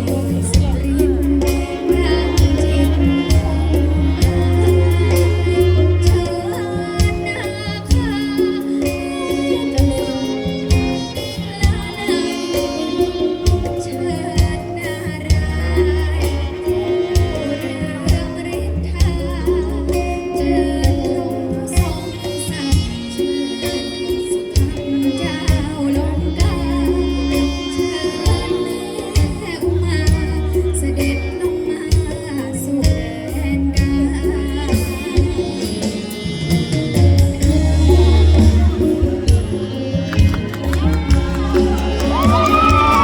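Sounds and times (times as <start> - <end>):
bass line: 0.0 - 43.0
percussion: 0.0 - 43.0
person singing: 0.0 - 43.0.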